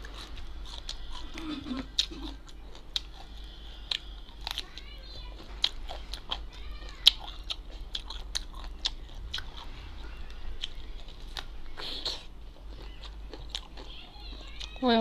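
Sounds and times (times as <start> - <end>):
crunchy chewing of cucumber: 0.0 - 14.8.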